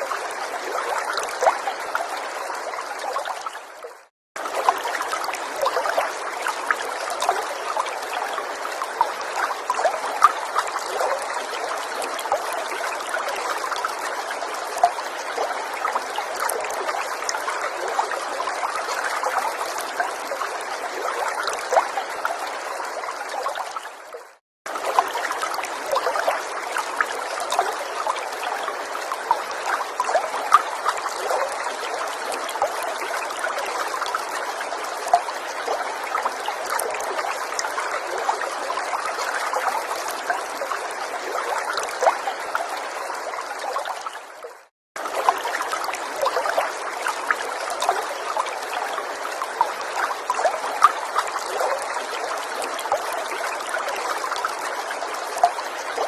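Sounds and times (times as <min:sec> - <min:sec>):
stream trickling over stones: 0:00.0 - 0:56.0.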